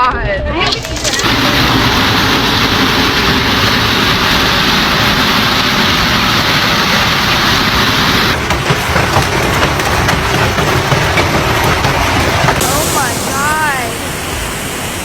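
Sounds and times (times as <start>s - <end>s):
hail pelting down: 0.7s - 15.0s.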